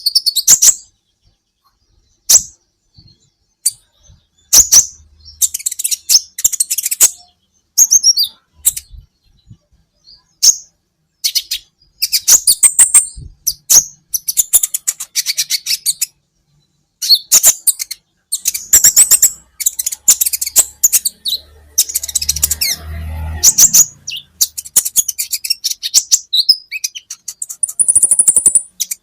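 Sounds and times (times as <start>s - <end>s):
bird chirping and trilling: 0.0s - 29.0s.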